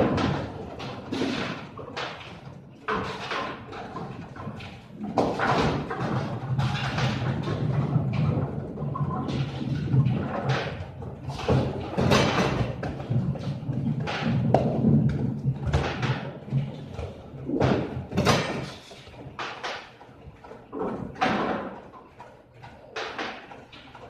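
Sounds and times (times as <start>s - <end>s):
bowling balls knocking together: 0.0s - 24.0s.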